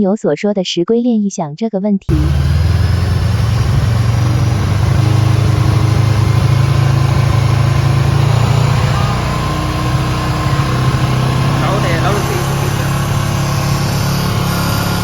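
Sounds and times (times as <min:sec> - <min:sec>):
motorcycle engine idling: 0:02.1 - 0:15.0.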